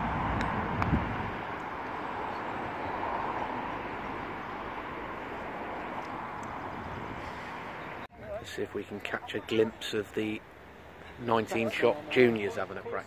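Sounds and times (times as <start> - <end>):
outdoor rumble and hiss: 0.0 - 13.0.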